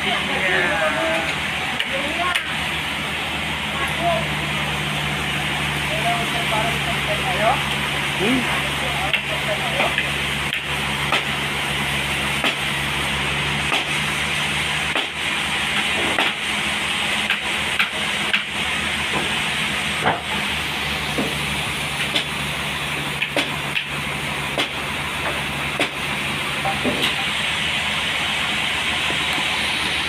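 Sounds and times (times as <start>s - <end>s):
sawmill machine hum: 0.0s - 30.0s.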